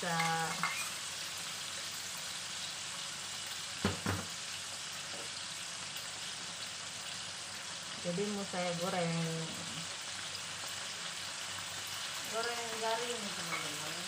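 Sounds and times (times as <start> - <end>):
shrimp sizzling in hot oil: 0.0 - 14.0.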